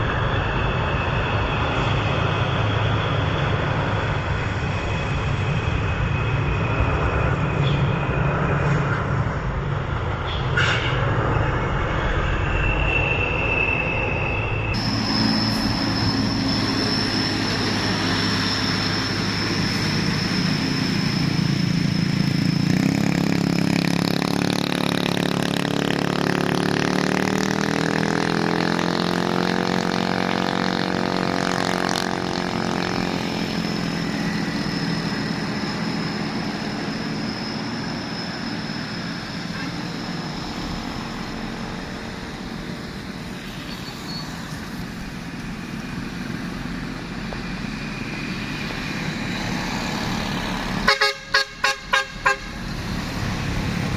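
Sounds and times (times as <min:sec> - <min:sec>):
truck diesel engine labouring: 0:00.0 - 0:53.9.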